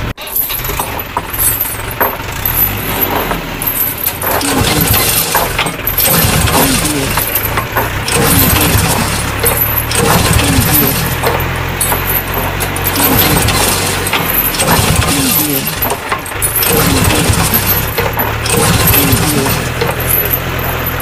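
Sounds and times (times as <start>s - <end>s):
tractor engine running: 0.0s - 21.0s
metal chain clinking: 0.1s - 21.0s.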